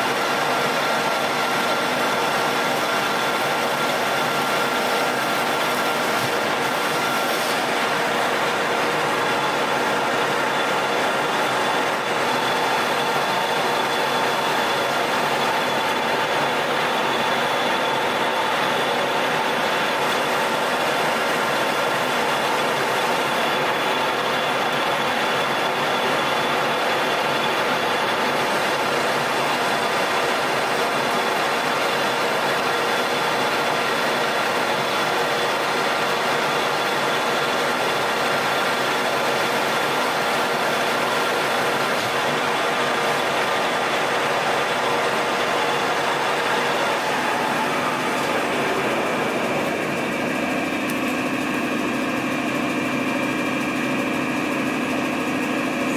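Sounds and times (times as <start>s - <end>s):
lathe gear whine: 0.0s - 55.9s.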